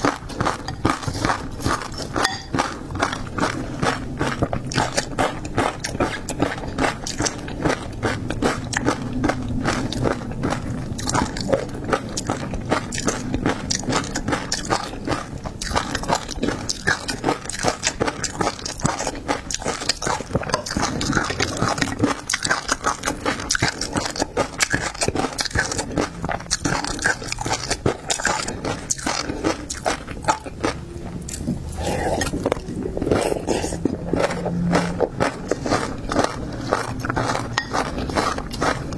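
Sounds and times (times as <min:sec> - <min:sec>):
close eating and crunching: 0:00.0 - 0:38.9.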